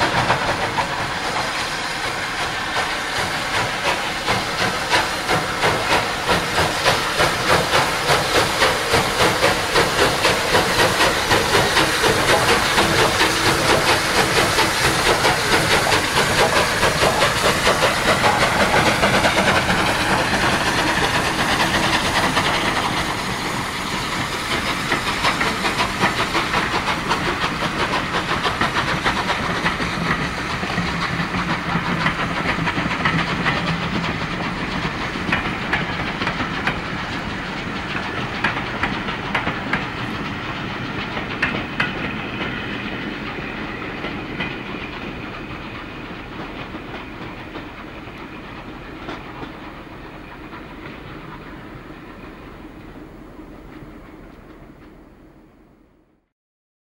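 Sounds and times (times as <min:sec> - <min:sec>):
train wheels clicking over rail joints: 0:00.0 - 0:55.0
steam locomotive hissing: 0:00.0 - 0:55.9.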